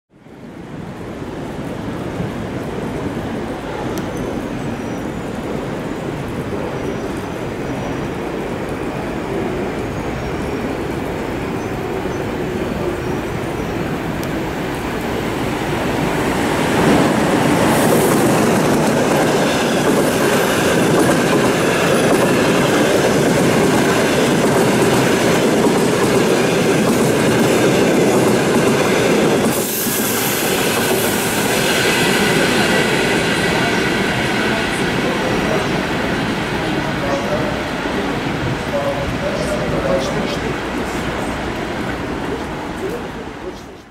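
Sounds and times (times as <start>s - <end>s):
train passing with rumble: 0.2s - 43.9s.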